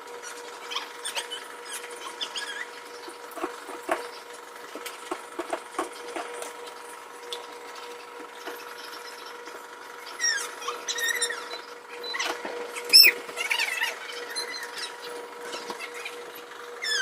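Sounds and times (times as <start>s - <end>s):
fridge hum: 0.0s - 17.0s.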